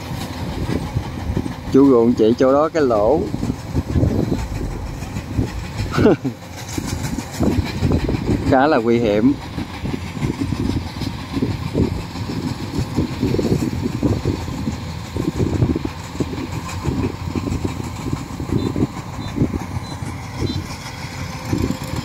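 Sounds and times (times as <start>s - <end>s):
harvester diesel engine under load: 0.0s - 22.0s.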